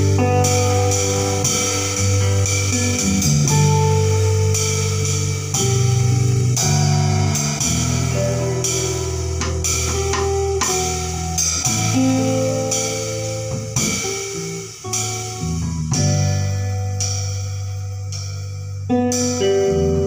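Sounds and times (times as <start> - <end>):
bass guitar notes: 0.0 - 20.0
drum kit: 0.0 - 20.0
electric guitar: 0.0 - 20.0.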